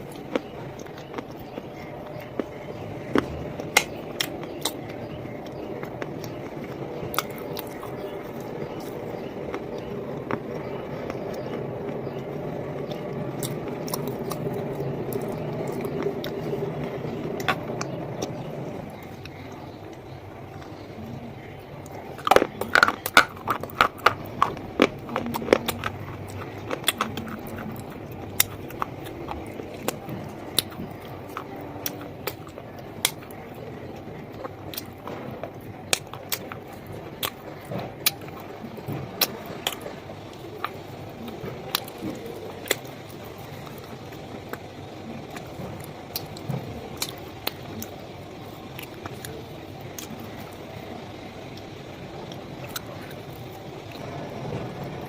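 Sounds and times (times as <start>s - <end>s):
chewing crunchy wafer bar: 0.0s - 55.0s.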